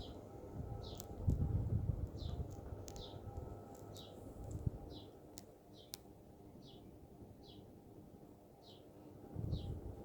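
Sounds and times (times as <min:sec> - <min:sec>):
ceiling fan rumble: 0:00.0 - 0:10.0.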